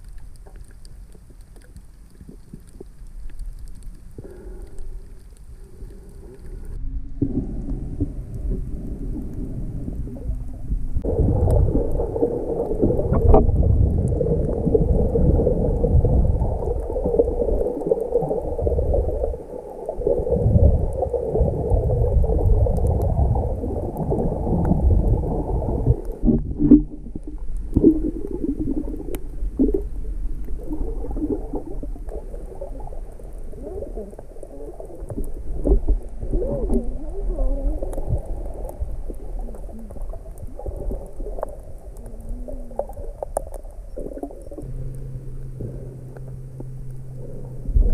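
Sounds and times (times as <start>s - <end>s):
low rumbles: 0.0s - 47.9s
underwater water rushing: 0.0s - 47.9s.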